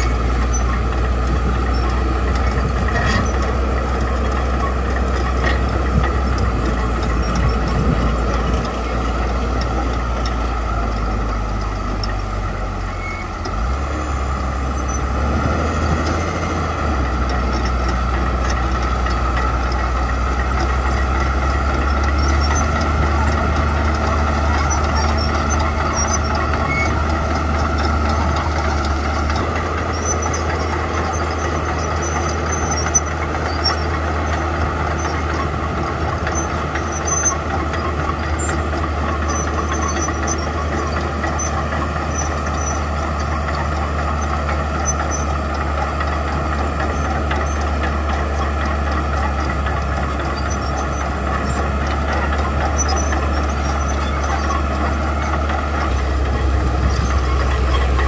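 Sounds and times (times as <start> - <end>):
bulldozer diesel engine running: 0.0 - 58.0
bulldozer pushing gravel: 0.0 - 58.0.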